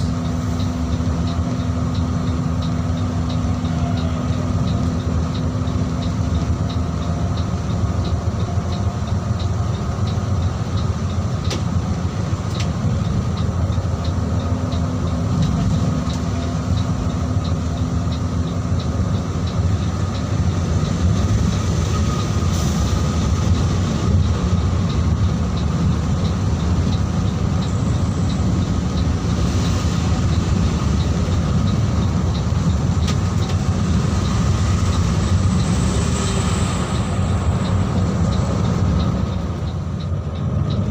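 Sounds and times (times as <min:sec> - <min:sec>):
bus engine and road rumble: 0:00.0 - 0:40.9
faint regular ticking: 0:00.0 - 0:40.9.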